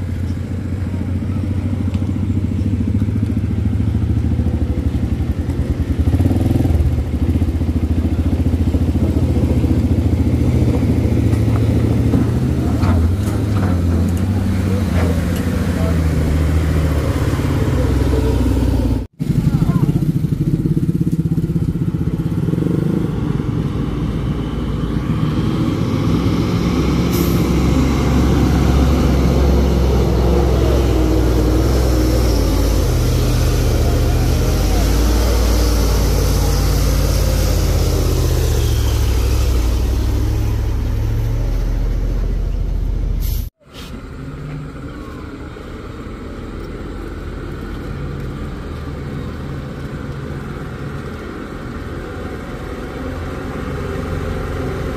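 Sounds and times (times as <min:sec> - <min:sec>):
truck diesel engine working hard: 0:00.0 - 0:47.8.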